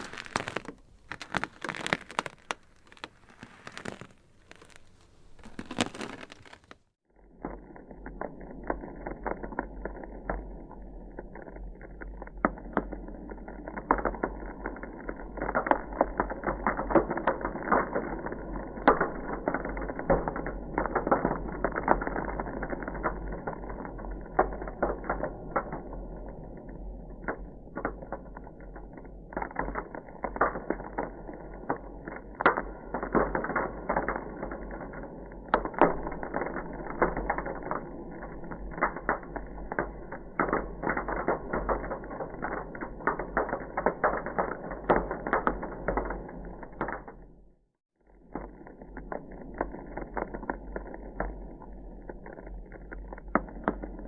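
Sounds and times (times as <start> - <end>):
ice crackling: 0.0 - 47.4, 48.1 - 54.0.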